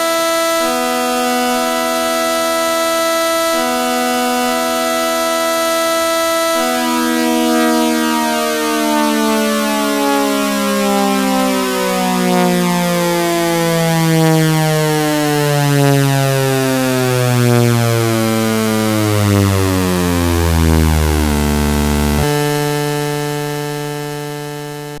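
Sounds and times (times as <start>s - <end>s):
warning siren winding down: 0.1s - 22.7s.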